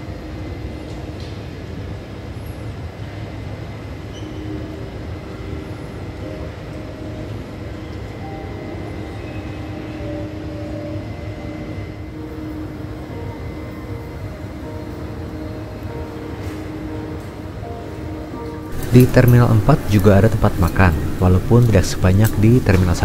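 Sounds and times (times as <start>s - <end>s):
low rumble of terminal hall: 0.0s - 23.0s
calm held music notes: 4.2s - 23.0s.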